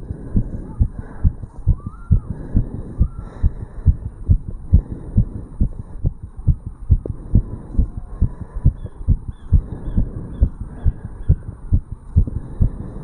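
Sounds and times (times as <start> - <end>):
heartbeat thumps: 0.0 - 13.0.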